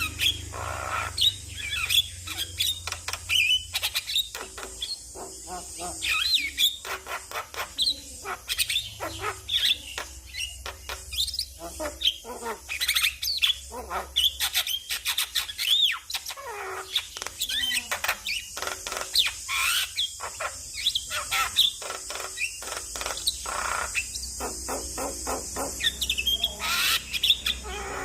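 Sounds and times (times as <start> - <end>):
myna bird singing: 0.0 - 28.0.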